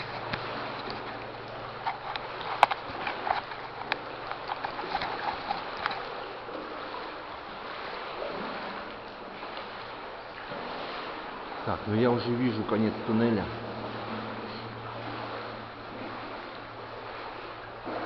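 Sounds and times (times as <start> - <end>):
moving water: 0.0 - 18.0
splashing footsteps in water: 0.0 - 18.0.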